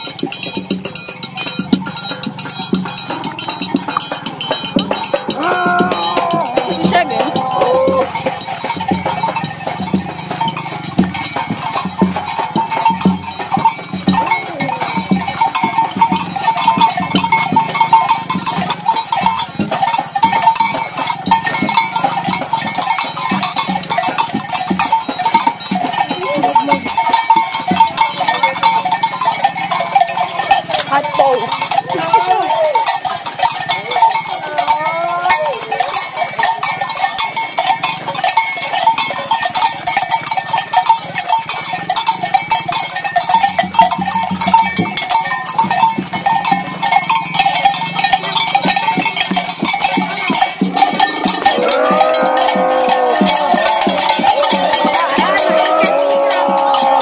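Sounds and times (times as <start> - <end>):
crowd voices: 0.0 - 42.1, 46.7 - 57.0
cowbells jangling: 0.0 - 57.0.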